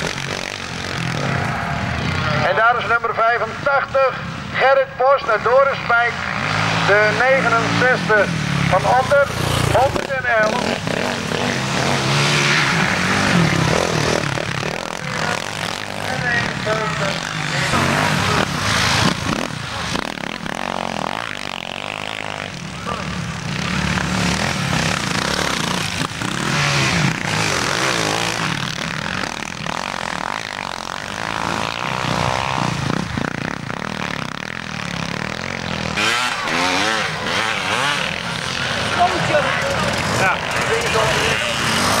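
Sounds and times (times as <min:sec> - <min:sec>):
motocross bikes revving past: 0:00.0 - 0:42.0.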